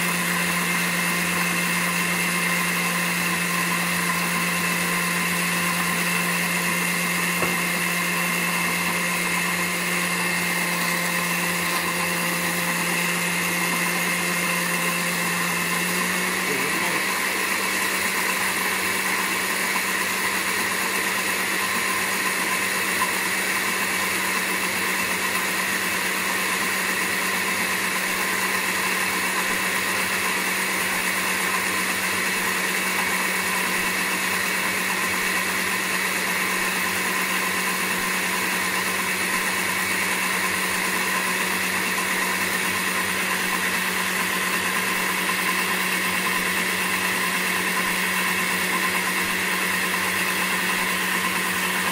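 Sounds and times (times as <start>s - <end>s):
blender motor running: 0.0s - 51.9s.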